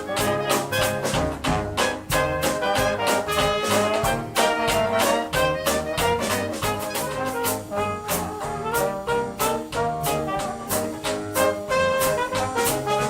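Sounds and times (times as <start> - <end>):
steady drum beat: 0.0 - 13.0
swing brass music: 0.0 - 13.0.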